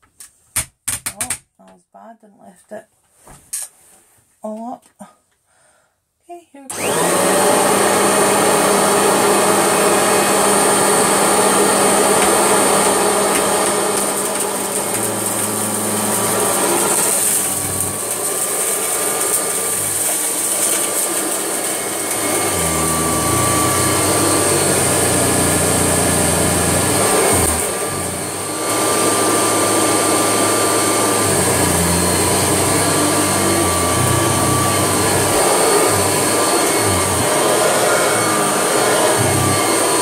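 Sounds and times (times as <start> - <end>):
upright vacuum cleaner whining: 6.7 - 40.0.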